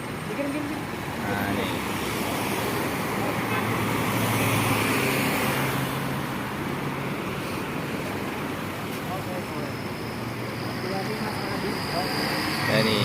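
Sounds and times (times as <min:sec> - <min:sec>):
bus passing by: 0:00.0 - 0:13.0.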